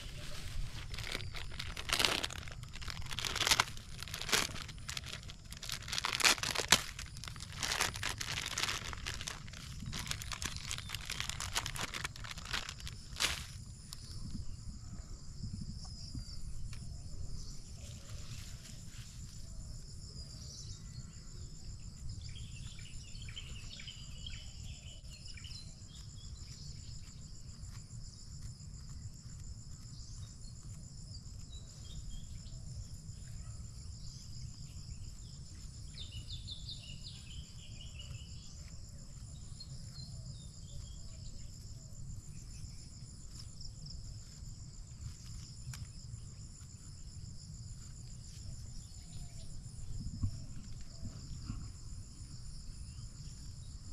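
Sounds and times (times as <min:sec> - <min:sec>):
insects trilling: 0:00.0 - 0:53.9.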